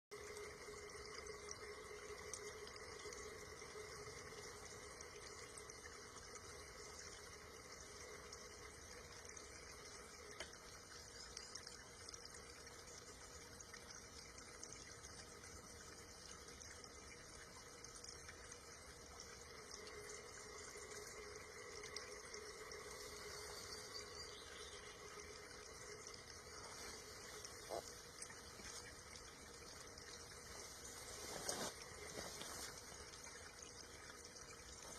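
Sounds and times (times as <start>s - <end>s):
low steady hum: 0.1s - 34.9s
trickling water: 0.1s - 34.9s.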